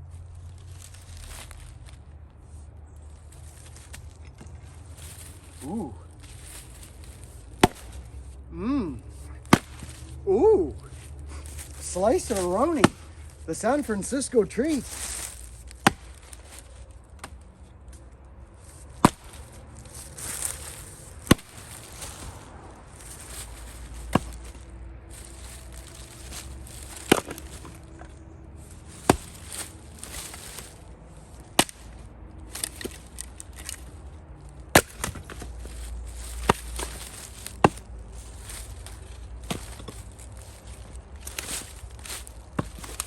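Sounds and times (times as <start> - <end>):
wood rustling: 0.0 - 43.0
axe chopping firewood: 3.7 - 17.5, 18.7 - 30.8, 31.4 - 34.0, 34.6 - 43.0.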